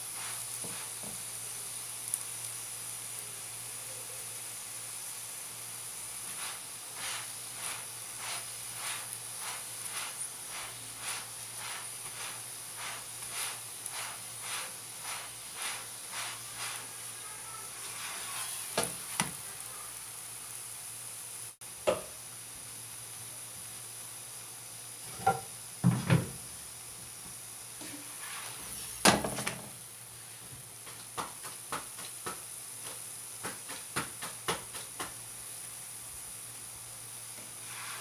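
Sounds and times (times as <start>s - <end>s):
flatbread sizzling in oil: 0.0s - 38.0s.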